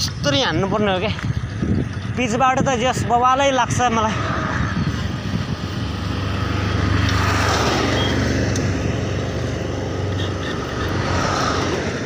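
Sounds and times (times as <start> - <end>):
wind over microphone: 0.0 - 10.1
bicycle road rumble: 0.0 - 12.0.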